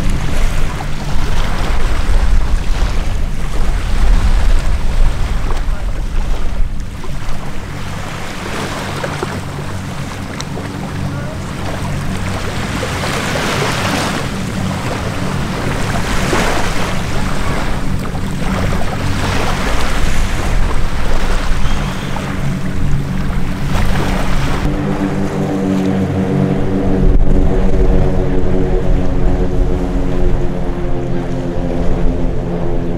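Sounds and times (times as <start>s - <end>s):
noisy swells: 0.0s - 32.9s
propeller aircraft droning past: 0.0s - 32.9s.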